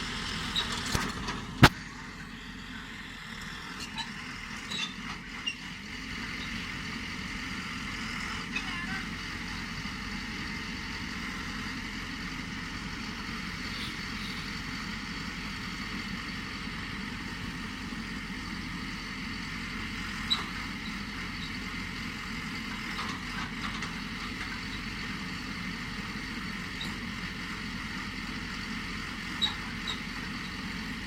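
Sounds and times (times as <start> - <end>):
pile driver engine running: 0.0 - 31.0.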